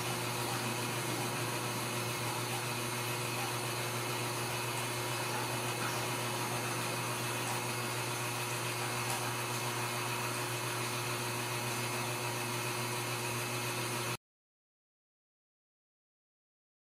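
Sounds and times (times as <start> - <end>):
machine hum and hiss: 0.0 - 14.2.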